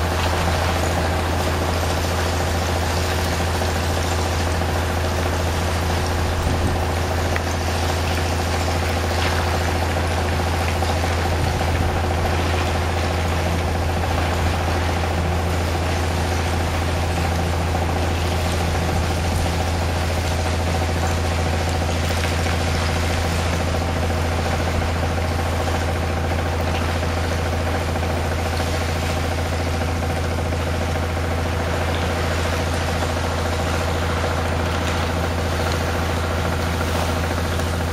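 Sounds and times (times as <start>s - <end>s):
water pump engine running: 0.0s - 37.9s.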